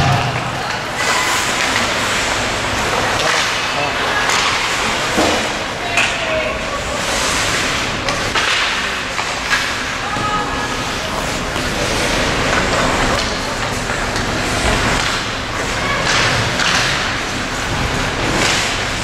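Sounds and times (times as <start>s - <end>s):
arena crowd din: 0.0s - 19.0s.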